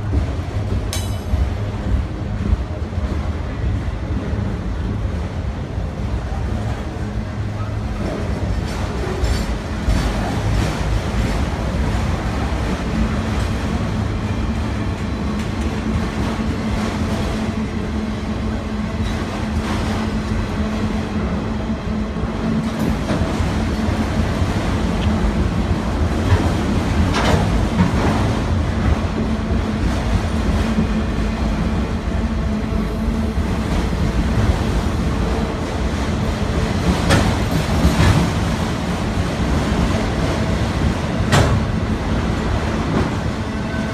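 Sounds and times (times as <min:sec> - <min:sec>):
train rumbling on track: 0:00.0 - 0:43.9.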